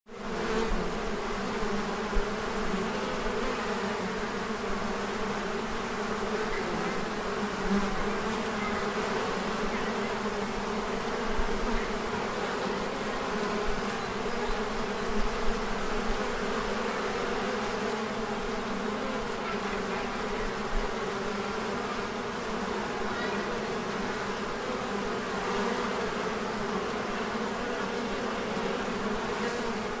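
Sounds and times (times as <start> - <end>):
bee hive buzzing: 0.1 - 30.0.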